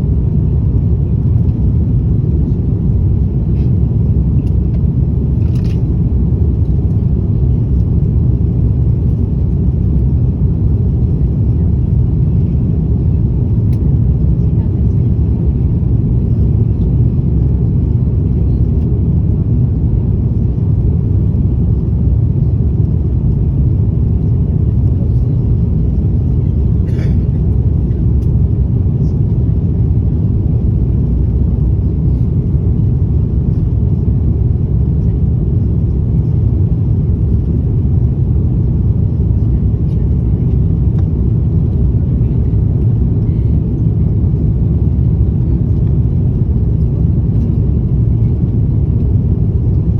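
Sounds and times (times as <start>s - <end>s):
airliner cabin rumble: 0.0s - 49.9s.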